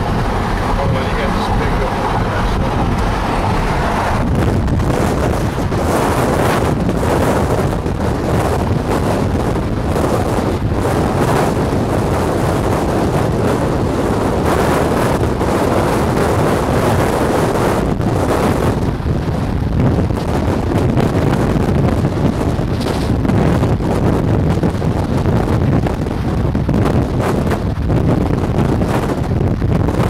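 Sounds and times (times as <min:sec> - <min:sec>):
vehicle road and wind noise: 0:00.0 - 0:30.0
wind buffeting microphone: 0:00.0 - 0:30.0.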